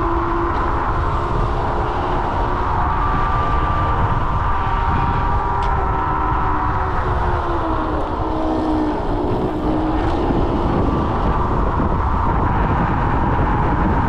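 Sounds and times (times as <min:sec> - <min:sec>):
motor whine: 0:00.0 - 0:14.0
wind buffeting microphone: 0:00.0 - 0:14.0.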